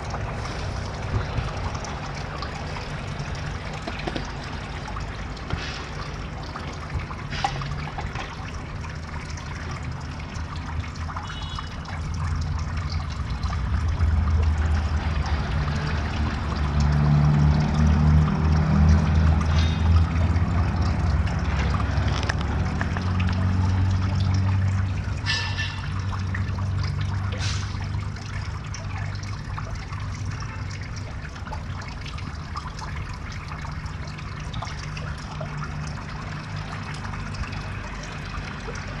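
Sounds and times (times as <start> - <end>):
water trickling into pond: 0.0 - 39.0.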